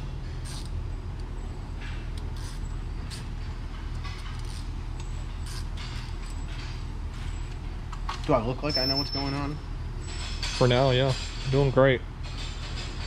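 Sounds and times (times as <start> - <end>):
shop machinery hum: 0.0 - 13.0
metal parts clinking and rustling: 1.8 - 13.0.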